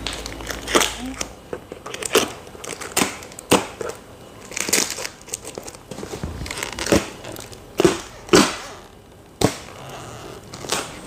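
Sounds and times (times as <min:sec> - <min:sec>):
packing tape pulled off: 0:00.0 - 0:11.0
plastic packaging crinkling: 0:00.0 - 0:11.0.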